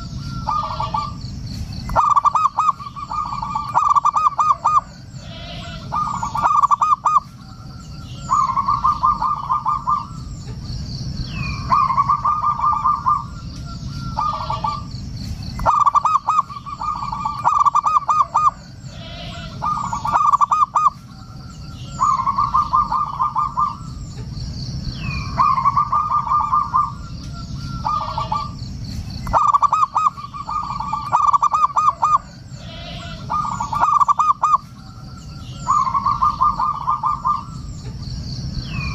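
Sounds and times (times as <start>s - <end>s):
dove cooing: 0.0s - 24.2s, 25.0s - 38.0s
low background noise: 0.0s - 38.9s.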